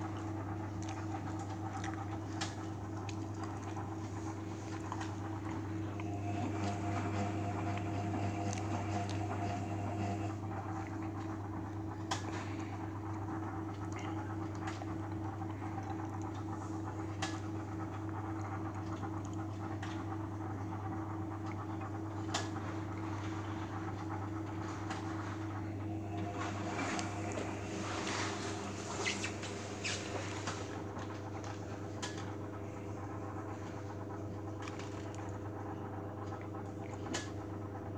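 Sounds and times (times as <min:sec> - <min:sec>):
washing machine humming: 0:00.0 - 0:37.9.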